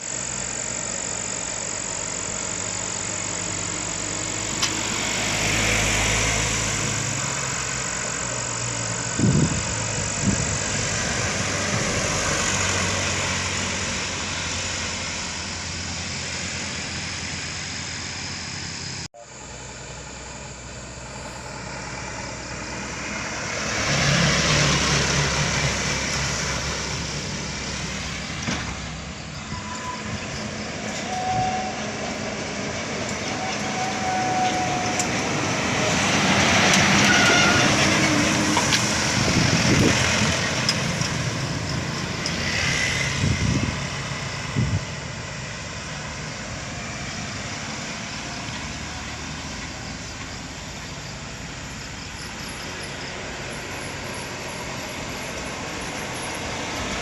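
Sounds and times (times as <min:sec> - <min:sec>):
road and traffic noise: 0:00.0 - 0:57.0
truck engine climbing: 0:00.0 - 0:57.0.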